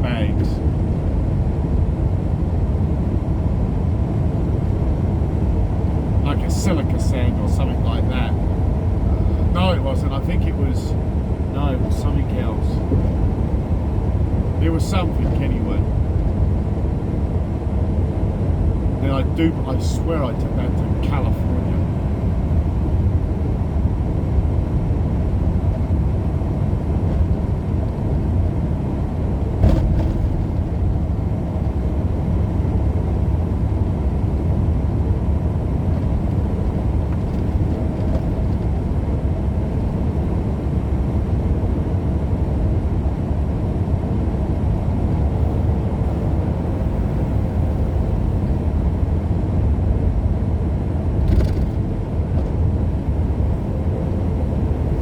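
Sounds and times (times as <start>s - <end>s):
truck engine and road rumble: 0.0s - 55.0s.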